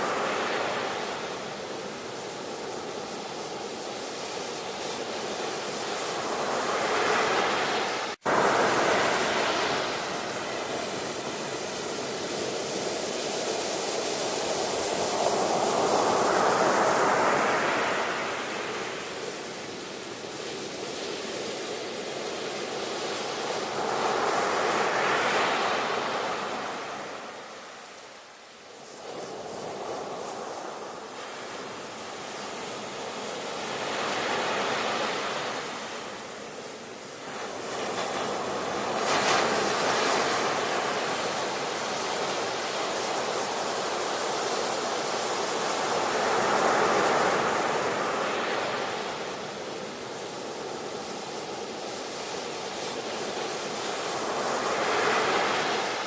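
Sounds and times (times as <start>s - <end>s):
ocean surf waves breaking: 0.0s - 56.0s.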